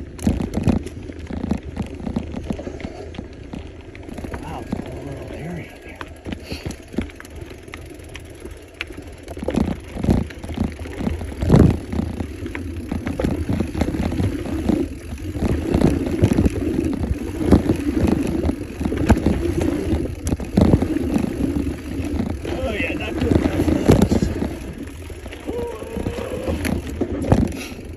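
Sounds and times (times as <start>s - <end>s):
bike rattling over bumps: 0.0s - 27.9s
tyres rolling over dirt: 0.0s - 27.9s.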